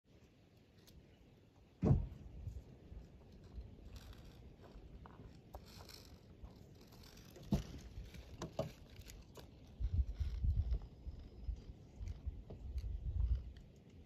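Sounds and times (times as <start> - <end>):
faint rustling: 2.4 - 14.0.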